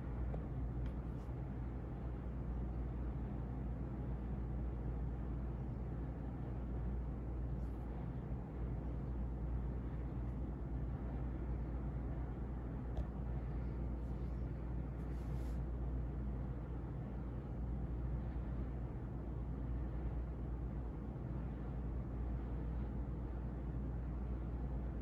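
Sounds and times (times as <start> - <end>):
ceiling fan motor hum: 0.0 - 25.0
rush of air from fan: 0.0 - 25.0.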